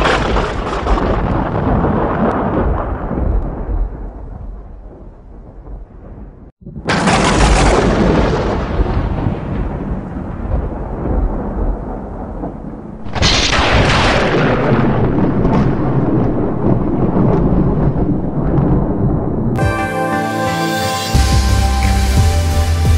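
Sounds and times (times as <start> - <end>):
thunder crack and rumble: 0.0 - 19.6.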